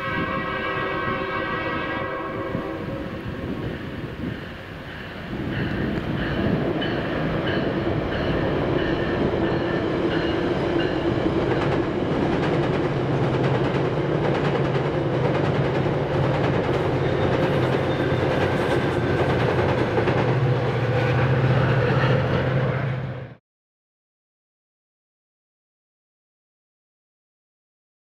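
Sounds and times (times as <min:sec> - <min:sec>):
train wheels rumbling on rails: 0:00.0 - 0:23.4.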